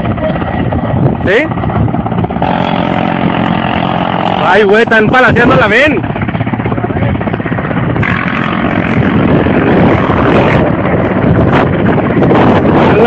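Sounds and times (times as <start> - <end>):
helicopter rotor chopping: 0.0 - 13.0.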